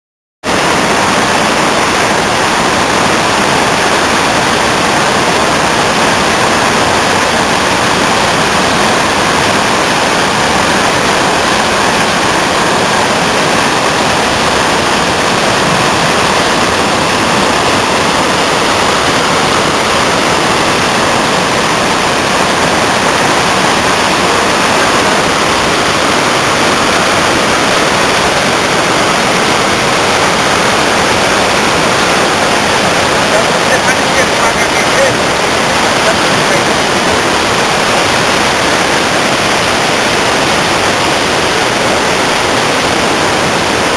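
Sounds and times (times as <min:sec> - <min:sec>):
water rushing over rocks: 0:00.4 - 0:43.9.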